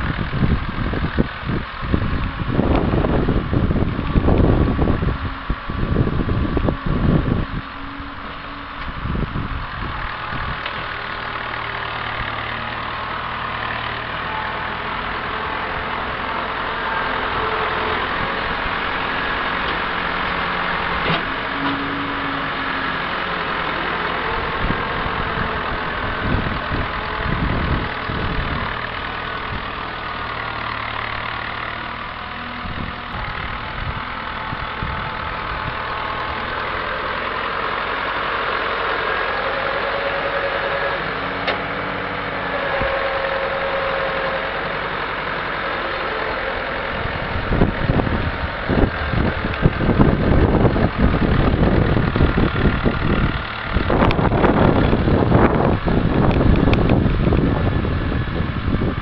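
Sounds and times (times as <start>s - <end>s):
wind buffeting microphone: 0.0s - 37.8s, 46.3s - 59.0s
tractor engine running: 0.0s - 59.0s.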